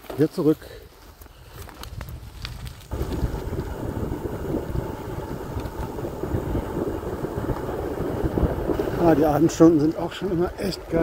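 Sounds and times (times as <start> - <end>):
wind buffeting microphone: 1.5 - 11.0.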